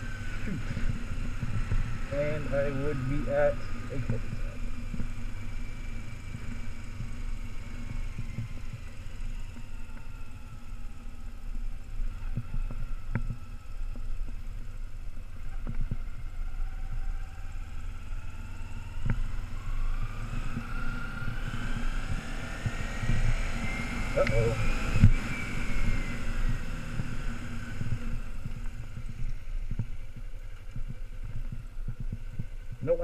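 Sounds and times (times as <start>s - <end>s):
motorcycle engine running: 0.0s - 33.0s
wind rumbling on microphone: 0.0s - 33.0s.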